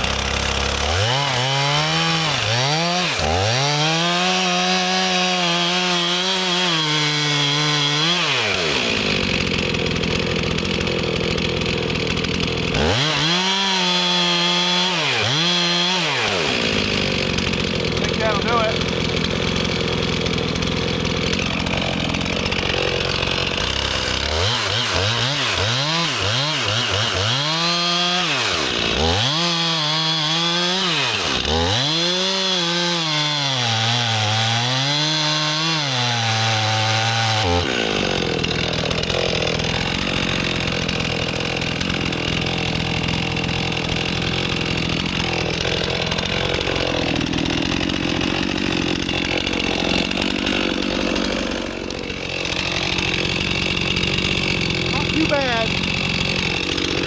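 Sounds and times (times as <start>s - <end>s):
chainsaw cutting tree: 0.0s - 57.0s.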